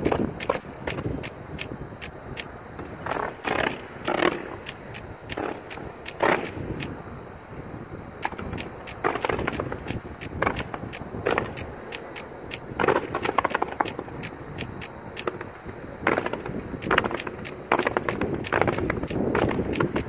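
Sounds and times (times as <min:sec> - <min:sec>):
fireworks popping and crackling: 0:00.0 - 0:02.4, 0:03.0 - 0:06.9, 0:08.2 - 0:20.0.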